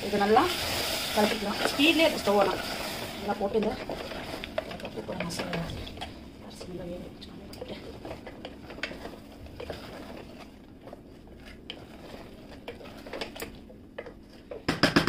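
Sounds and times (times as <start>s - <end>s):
wooden spatula scraping a pot: 0.0s - 14.5s.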